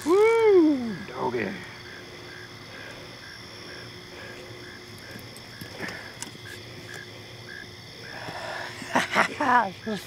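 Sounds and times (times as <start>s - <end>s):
insects and frogs calling: 0.0s - 10.0s.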